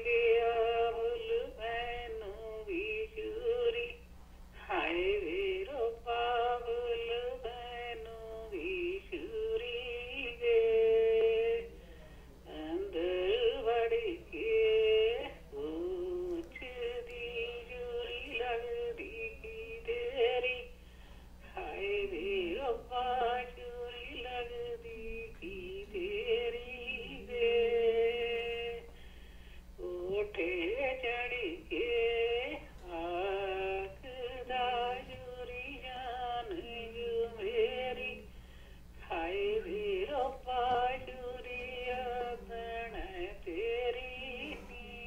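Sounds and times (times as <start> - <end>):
woman singing over telephone: 0.0 - 11.7, 12.5 - 20.8, 21.4 - 28.9, 29.8 - 38.3, 39.0 - 45.0.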